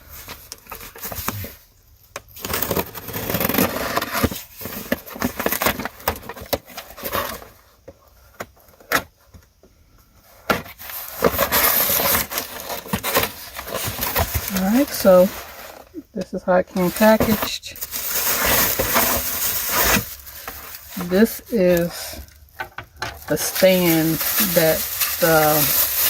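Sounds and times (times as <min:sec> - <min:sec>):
cardboard packaging rustling: 0:00.0 - 0:01.7, 0:02.3 - 0:09.4, 0:10.2 - 0:26.0.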